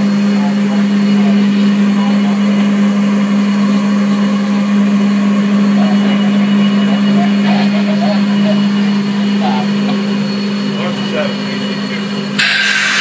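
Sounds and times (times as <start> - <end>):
constant low hum: 0.0 - 13.0
fire roaring in firebox: 0.0 - 13.0.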